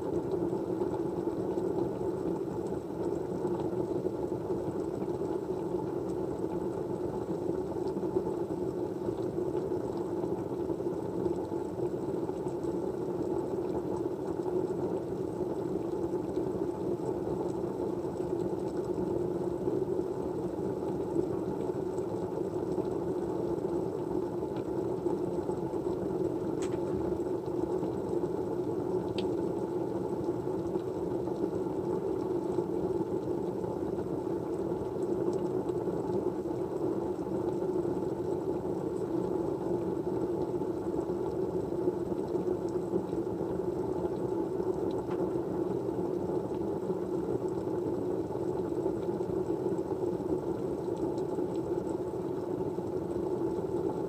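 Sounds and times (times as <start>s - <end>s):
white-noise room hum: 0.0s - 54.0s.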